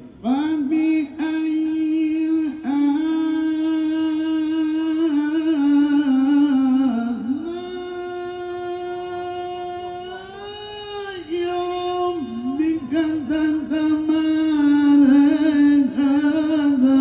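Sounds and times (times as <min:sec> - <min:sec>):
man reciting melodically over loudspeakers: 0:00.0 - 0:17.0.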